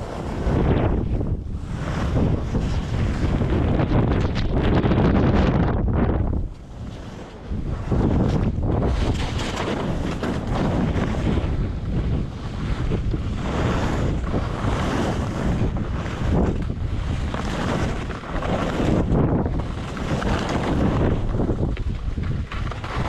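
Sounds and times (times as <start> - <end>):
strong wind on microphone: 0.0 - 23.0.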